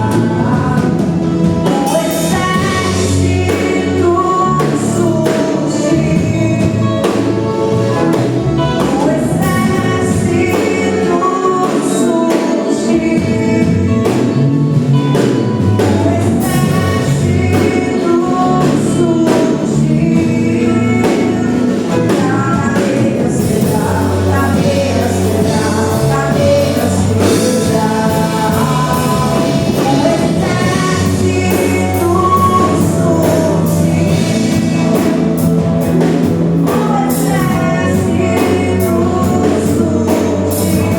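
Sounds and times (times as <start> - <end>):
bass notes: 0.0 - 40.9
group singing worship song: 0.0 - 40.9.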